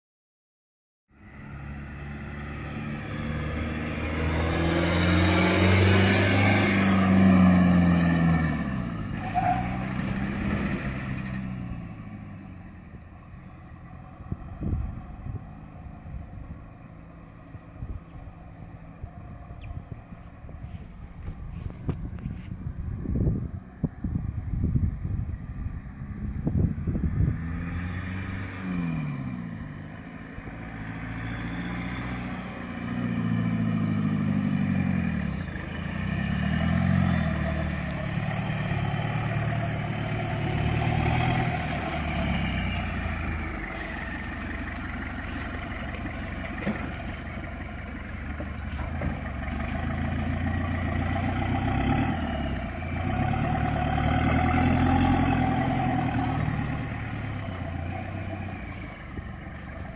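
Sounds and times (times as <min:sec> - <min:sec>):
diesel engine revving while driving: 0:01.2 - 0:59.9.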